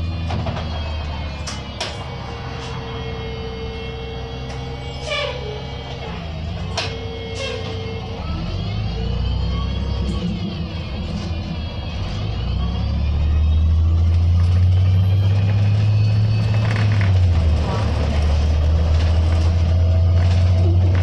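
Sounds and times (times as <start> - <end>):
bus engine idling: 0.0 - 21.0
road traffic passing: 0.0 - 21.0.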